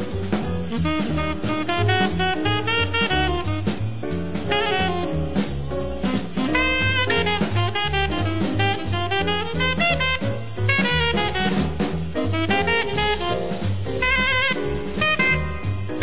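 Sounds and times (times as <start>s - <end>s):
bass piano and drums: 0.0s - 16.0s
horn soloing in quick runs: 0.6s - 3.8s, 4.4s - 16.0s.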